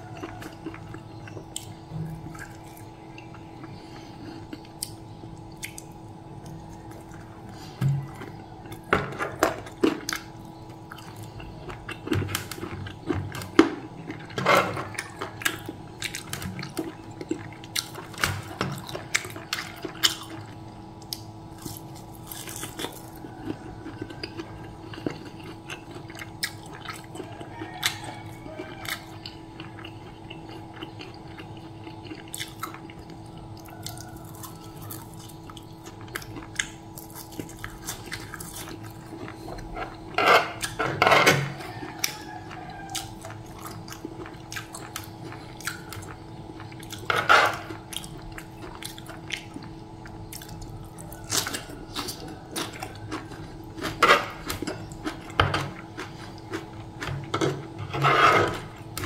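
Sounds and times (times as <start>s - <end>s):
crunching food: 0.0s - 59.0s
faint steady hum: 0.0s - 59.0s
person chewing food: 0.0s - 59.0s.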